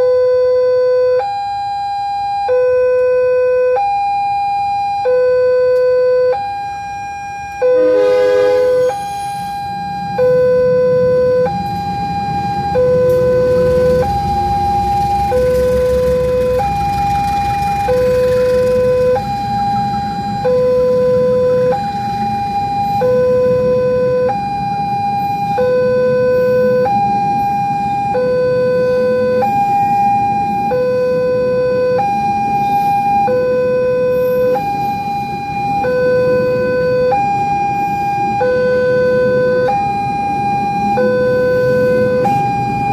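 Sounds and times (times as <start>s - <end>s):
two-tone level-crossing siren: 0.0s - 42.9s.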